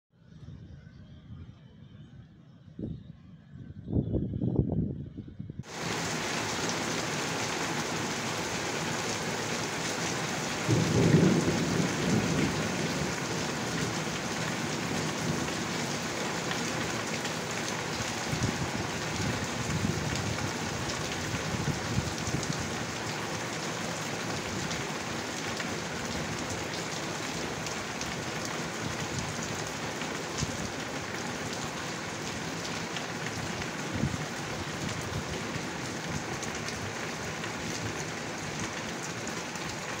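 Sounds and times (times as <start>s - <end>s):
heavy rain pouring: 5.6s - 40.0s.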